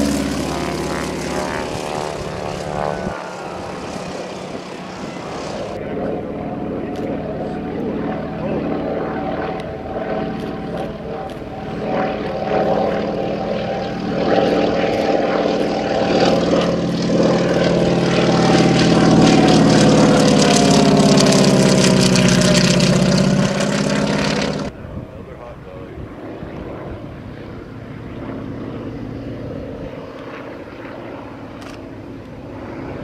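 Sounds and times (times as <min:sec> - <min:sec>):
propeller plane engine drone: 0:00.0 - 0:33.0.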